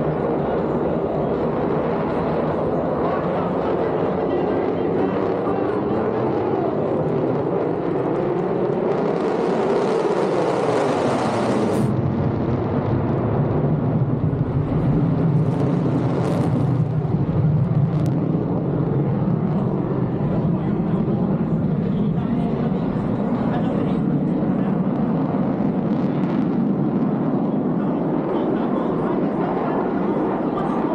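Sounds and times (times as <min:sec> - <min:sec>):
fighter jet engine roar: 0:00.0 - 0:30.9.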